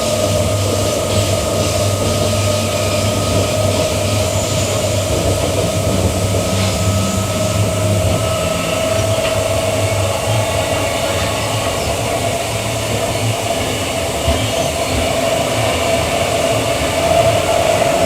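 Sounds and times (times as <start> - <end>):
electric train running: 0.0 - 18.0.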